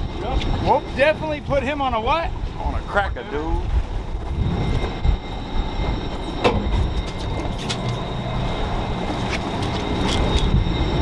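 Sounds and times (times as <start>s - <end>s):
faint steady whine: 0.0s - 11.0s
outboard motors idling: 0.0s - 11.0s
wind buffeting microphone: 0.0s - 11.0s.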